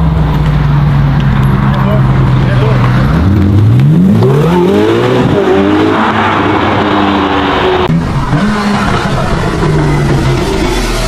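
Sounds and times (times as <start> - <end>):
car engine accelerating hard: 0.4 - 11.0.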